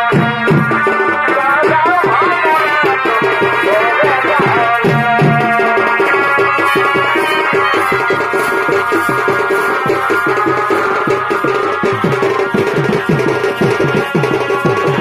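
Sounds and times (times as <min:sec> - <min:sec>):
folk drums drumming: 0:00.0 - 0:15.0
reed pipe melody: 0:00.0 - 0:15.0.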